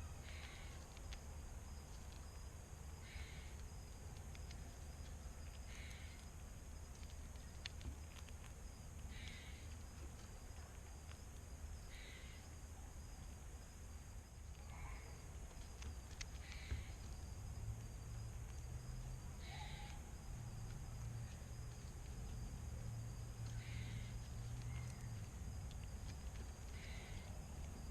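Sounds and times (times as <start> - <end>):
faint low hum: 0.0 - 27.9.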